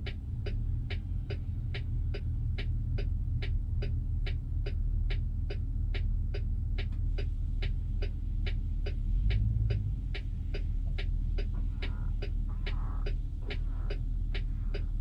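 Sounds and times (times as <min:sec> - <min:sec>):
engine and road rumble: 0:00.0 - 0:15.0
sharp even ticking: 0:00.0 - 0:15.0.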